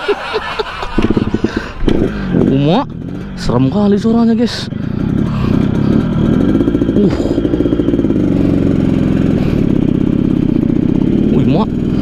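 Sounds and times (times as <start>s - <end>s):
two-stroke motorcycle engine running: 0.4s - 12.0s.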